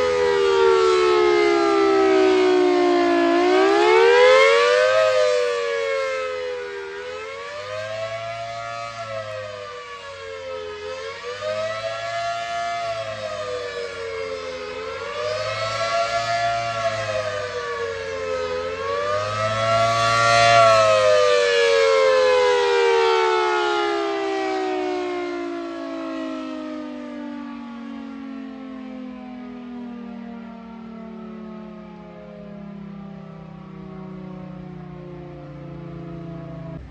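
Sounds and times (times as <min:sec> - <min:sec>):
warning siren wailing: 0:00.0 - 0:36.9.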